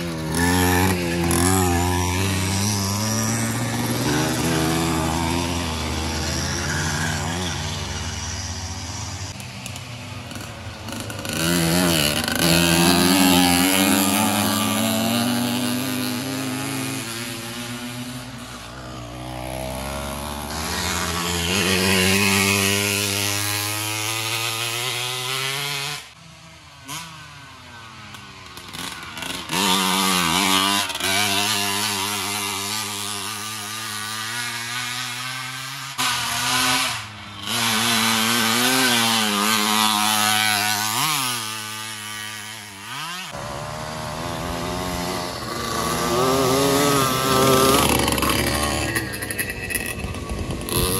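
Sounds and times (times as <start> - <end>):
small engines revving past: 0.0 - 50.9.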